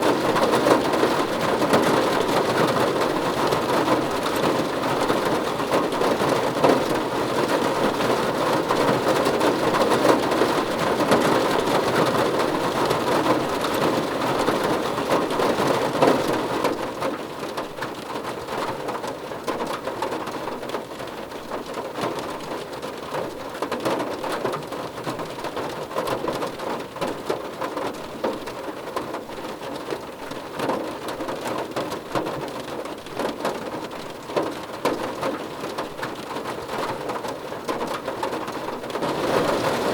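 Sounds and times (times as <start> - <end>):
rain pattering on a car roof: 0.0 - 39.9.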